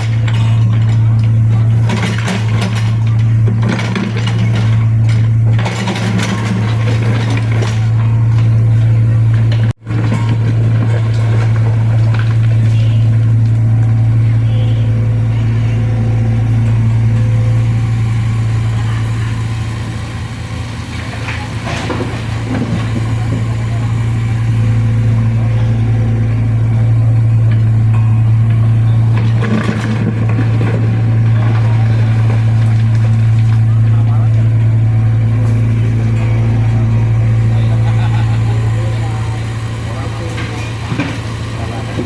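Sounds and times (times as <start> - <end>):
excavator diesel engine droning: 0.0 - 42.0.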